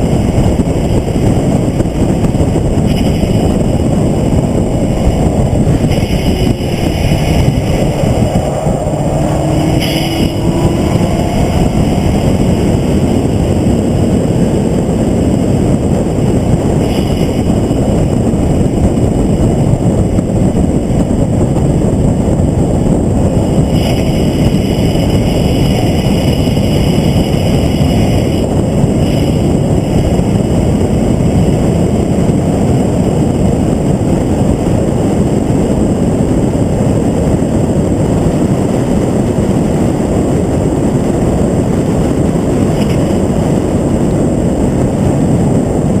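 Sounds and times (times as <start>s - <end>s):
car engine at speed: 0.0s - 46.0s
road noise: 0.0s - 46.0s
wind noise: 0.0s - 46.0s.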